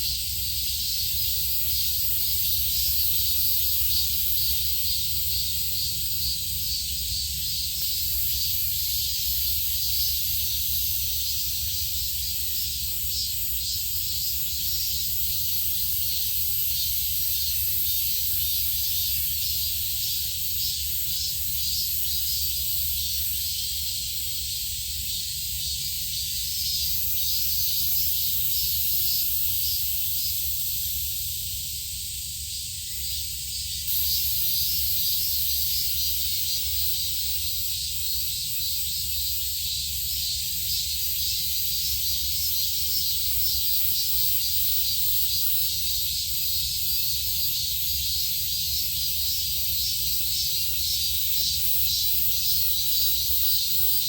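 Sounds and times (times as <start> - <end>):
shrill insect chorus: 0.0 - 54.0.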